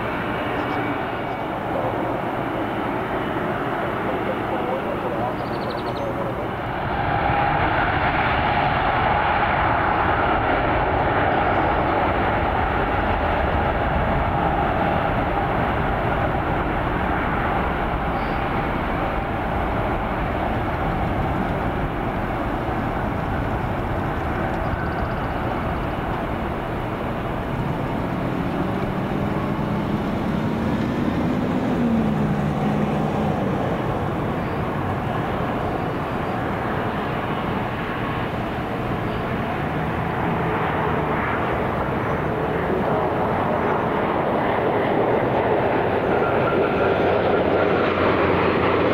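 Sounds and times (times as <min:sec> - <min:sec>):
jet engine noise: 0:00.0 - 0:48.9.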